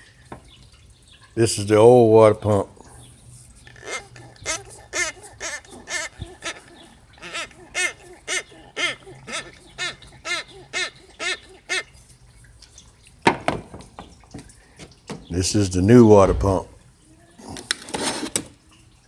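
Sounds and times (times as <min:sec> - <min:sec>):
water pump squeaking: 0:00.0 - 0:19.0.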